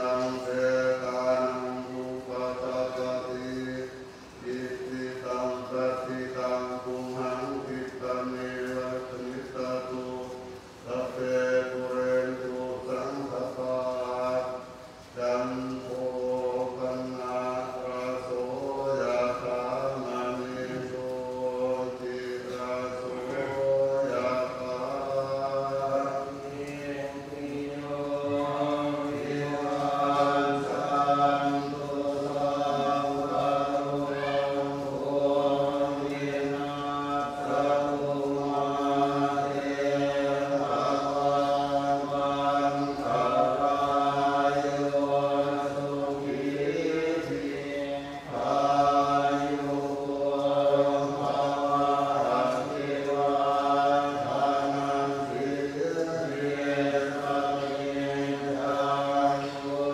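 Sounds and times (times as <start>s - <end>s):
men chanting in unison: 0.0s - 59.9s.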